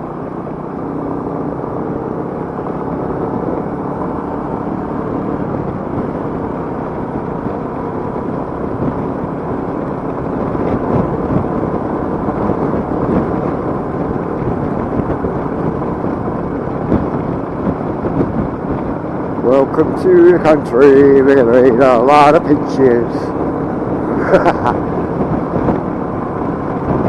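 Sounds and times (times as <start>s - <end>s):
motorcycle engine cruising: 0.0s - 27.0s
wind buffeting microphone: 0.0s - 27.0s.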